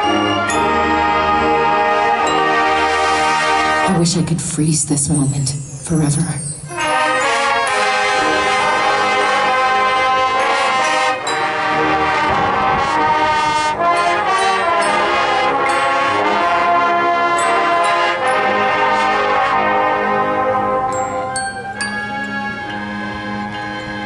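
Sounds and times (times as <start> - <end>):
marching band brass chords: 0.0 - 4.6, 6.7 - 24.0.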